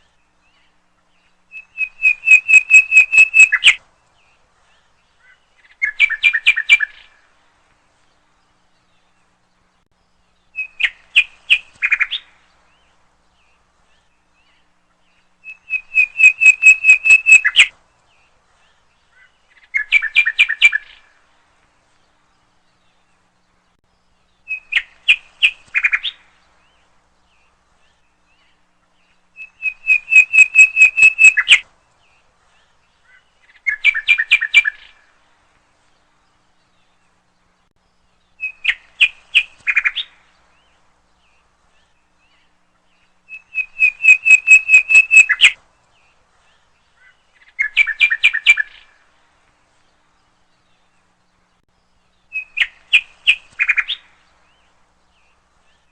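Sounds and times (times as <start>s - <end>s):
nightingale singing: 0.0s - 7.3s, 8.2s - 21.3s, 22.1s - 35.2s, 35.8s - 49.1s, 49.7s - 55.9s.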